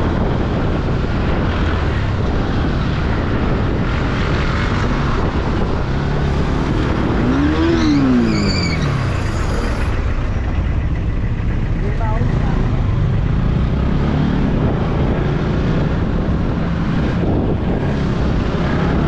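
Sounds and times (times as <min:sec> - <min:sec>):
motorcycle engine: 0:00.0 - 0:19.0
wind rush on microphone: 0:00.0 - 0:19.0.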